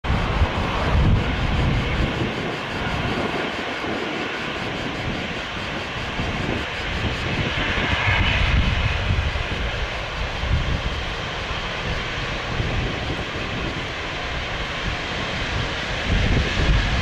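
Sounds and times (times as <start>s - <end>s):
jet engine whine: 0.0s - 17.0s.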